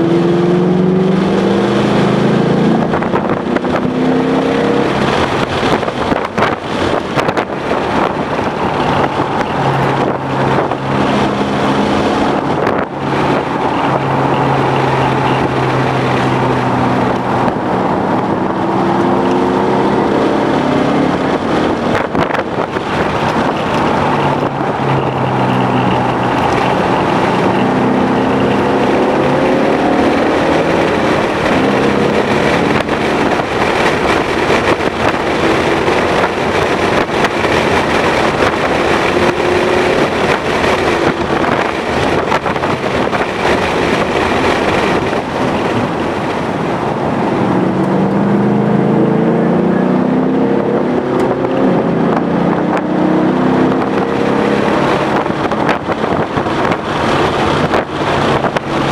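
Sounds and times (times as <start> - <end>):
car engine accelerating: 0.0 - 58.9
road noise: 0.0 - 58.9
wind noise: 0.0 - 58.9.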